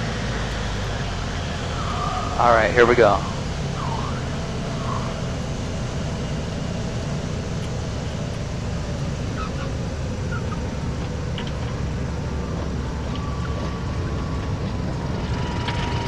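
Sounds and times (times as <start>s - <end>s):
propeller engine rumbling: 0.0s - 16.0s.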